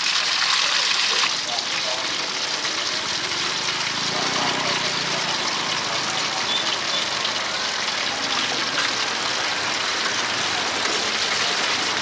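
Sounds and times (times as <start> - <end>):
oil sizzling in wok: 0.0 - 12.0.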